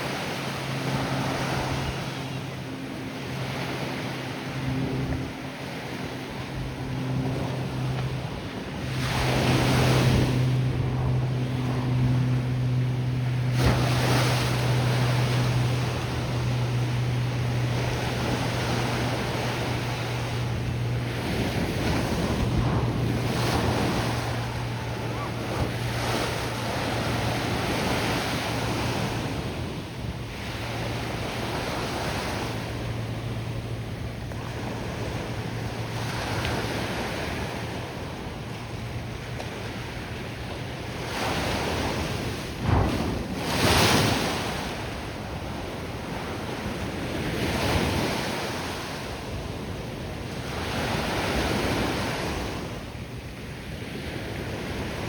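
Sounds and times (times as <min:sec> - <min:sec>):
ocean surf breaking: 0:00.0 - 0:55.0
steady low hum: 0:00.0 - 0:55.0
wind on microphone: 0:00.0 - 0:55.0.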